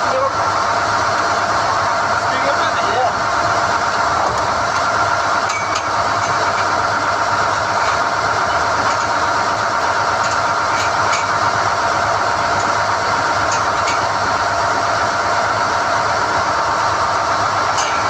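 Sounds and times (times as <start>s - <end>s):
drilling rig running: 0.0s - 18.0s.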